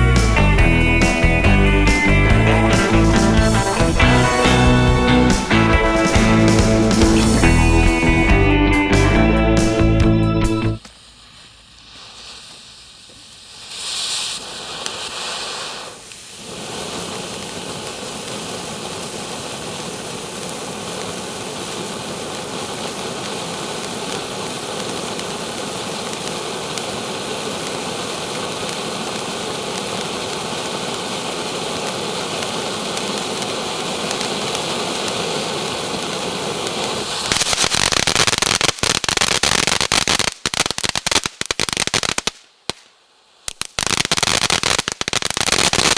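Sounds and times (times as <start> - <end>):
firework spraying and crackling: 0.0 - 8.2, 10.8 - 45.9
firework hissing: 0.0 - 8.6, 10.8 - 45.9.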